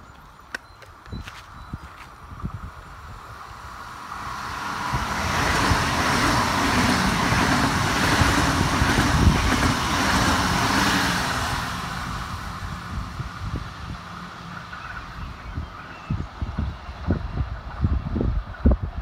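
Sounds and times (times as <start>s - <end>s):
train wheels rolling on rails: 0.0s - 19.0s.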